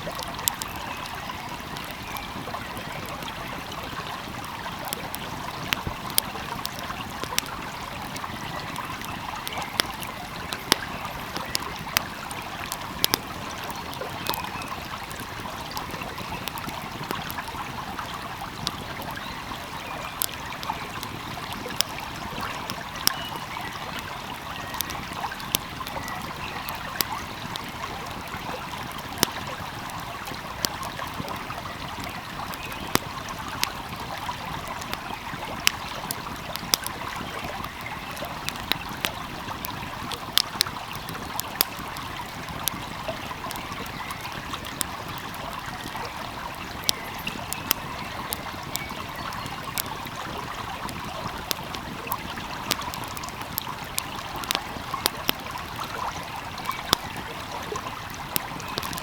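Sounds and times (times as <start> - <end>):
fire crackling and popping: 0.0 - 59.0
stream flowing: 0.0 - 59.0.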